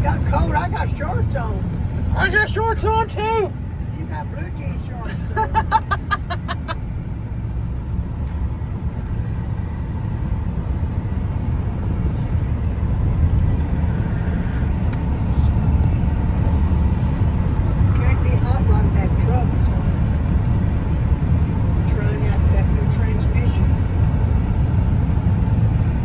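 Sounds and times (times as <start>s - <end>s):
engine and road rumble: 0.0s - 26.0s.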